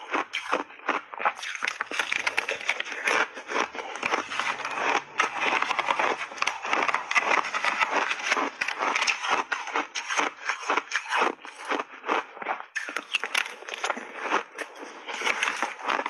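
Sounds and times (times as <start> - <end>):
crunching shaved ice: 0.0 - 16.0.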